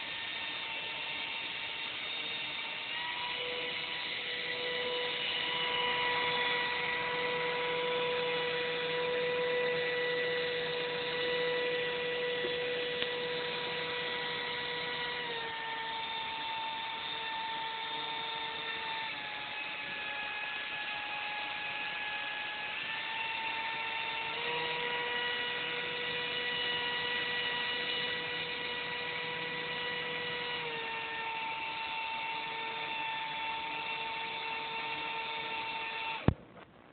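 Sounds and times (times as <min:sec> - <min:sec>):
electric motors spinning propellers: 0:00.0 - 0:36.3.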